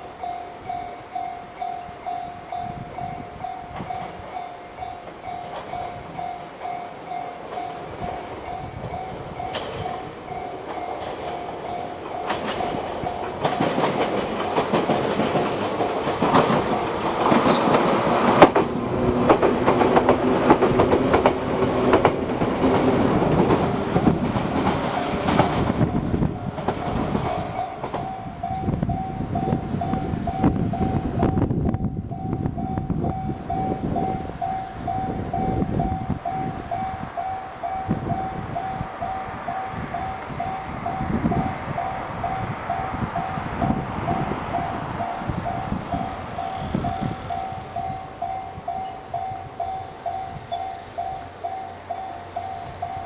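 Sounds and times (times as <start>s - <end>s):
level crossing warning bell: 0.0s - 18.3s, 21.3s - 53.0s
train rumbling over rail joints: 0.0s - 53.0s.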